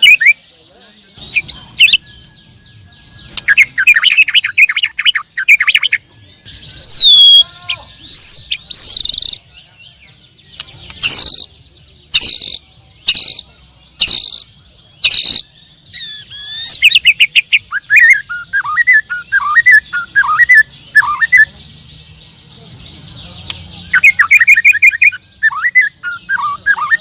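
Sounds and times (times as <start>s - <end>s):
canaries singing: 0.0s - 27.0s.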